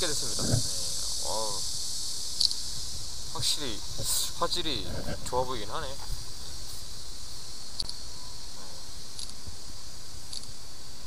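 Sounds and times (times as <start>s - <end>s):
insect chirps: 0.0s - 11.0s
insects trilling: 0.0s - 11.0s.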